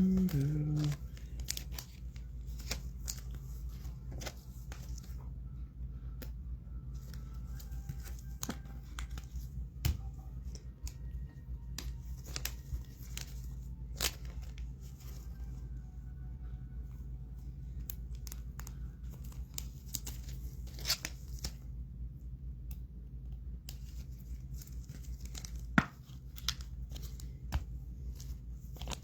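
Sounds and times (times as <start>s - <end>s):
cards and wrappers crinkling: 0.0s - 5.3s, 6.2s - 15.9s, 17.4s - 21.7s, 23.6s - 29.0s
steady low hum: 0.0s - 29.0s.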